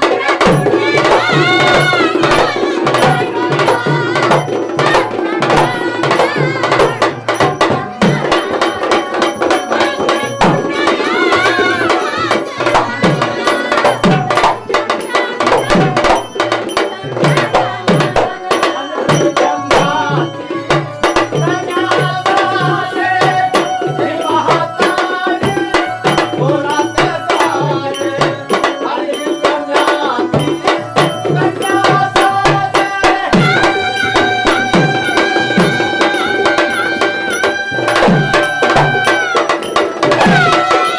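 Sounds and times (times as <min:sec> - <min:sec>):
hand drum beat: 0:00.0 - 0:40.9
held melodic tones: 0:00.0 - 0:40.9
metallic jingling percussion: 0:00.0 - 0:40.9.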